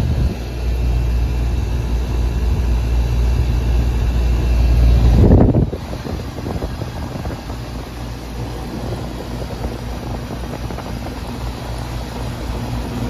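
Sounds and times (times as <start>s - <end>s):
compressor humming: 0.0s - 13.0s
condenser fan blowing: 0.0s - 13.0s.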